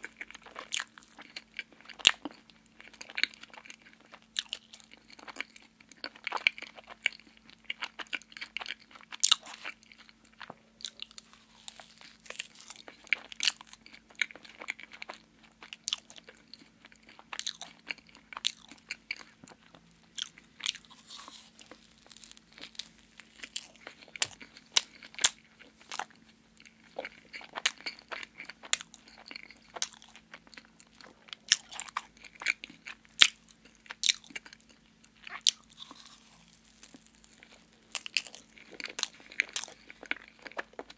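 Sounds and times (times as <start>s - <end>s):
biting and chewing: 0.0s - 40.9s.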